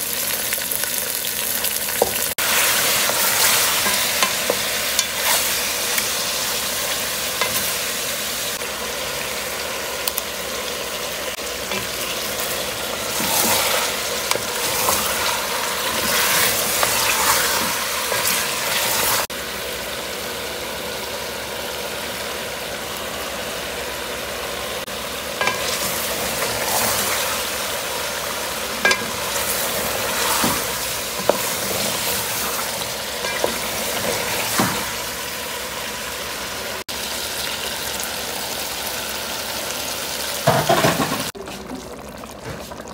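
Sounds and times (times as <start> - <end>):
chicken sizzling in hot oil: 0.0 - 42.9.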